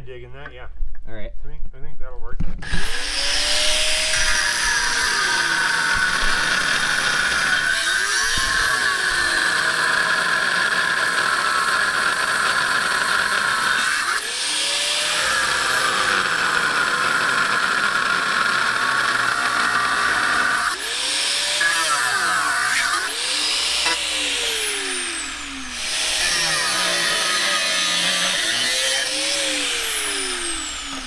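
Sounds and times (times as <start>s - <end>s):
angle grinder grinding metal: 2.6s - 31.0s.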